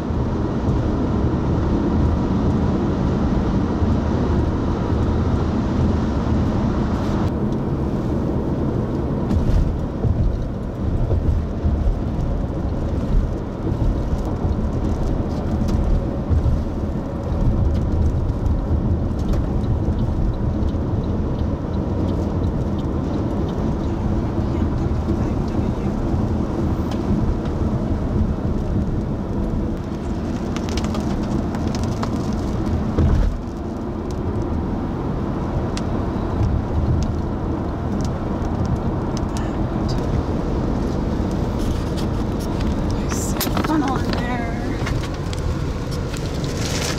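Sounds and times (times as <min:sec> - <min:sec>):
car driving heard from inside: 0:00.0 - 0:46.9.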